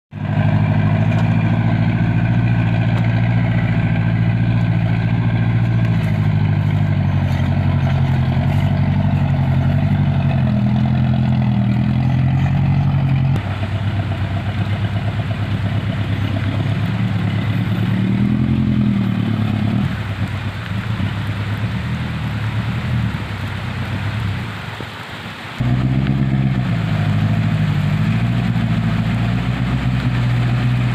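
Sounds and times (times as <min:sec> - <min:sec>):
vehicle engine revving: 0:00.1 - 0:24.7, 0:25.6 - 0:30.9.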